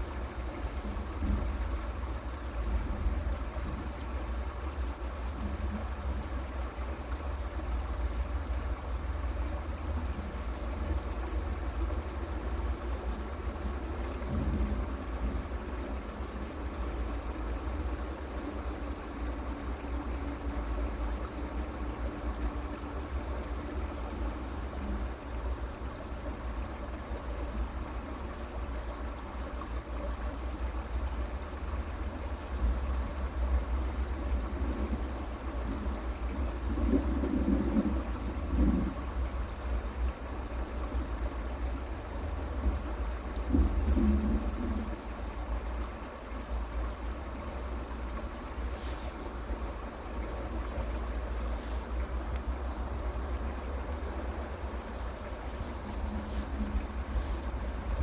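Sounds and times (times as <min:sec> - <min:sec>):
creek water running: 0:00.0 - 0:58.0.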